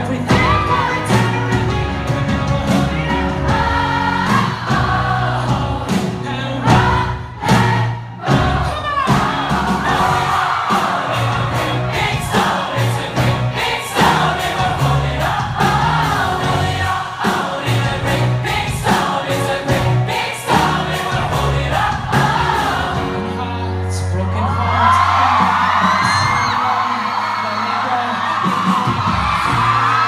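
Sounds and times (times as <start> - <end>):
crowd singing along: 0.0 - 30.0
live band playing: 0.0 - 30.0.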